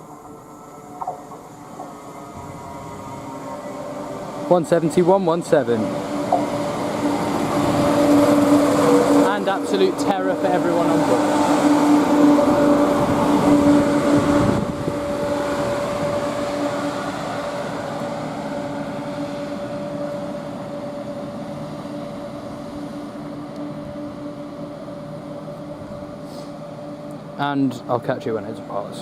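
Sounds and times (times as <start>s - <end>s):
diesel train slowing: 0.0s - 29.0s
steady train hum: 0.0s - 29.0s.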